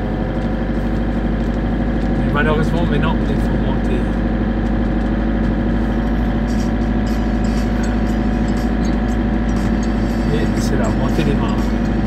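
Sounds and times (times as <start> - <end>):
motorhome engine running: 0.0 - 12.0
tyre and road noise: 0.0 - 12.0.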